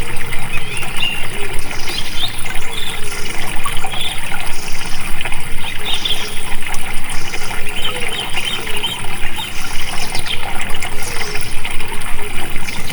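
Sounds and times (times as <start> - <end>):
water rushing and gurgling: 0.0 - 12.9.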